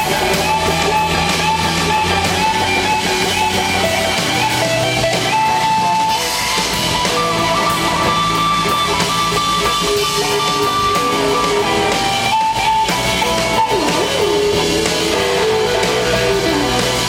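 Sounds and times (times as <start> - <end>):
blues-rock band playing: 0.0 - 17.0
lead guitar bending notes: 0.0 - 17.0.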